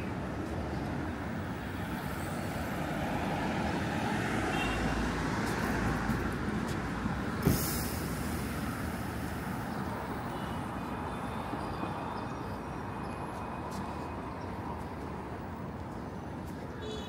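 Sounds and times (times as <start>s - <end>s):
passing vehicles rumble: 0.0s - 16.9s.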